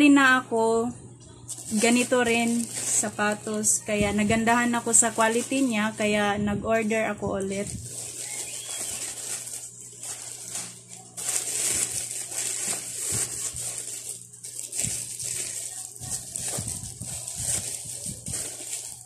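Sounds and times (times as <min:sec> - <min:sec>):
plastic bag crinkling: 0:01.5 - 0:19.0.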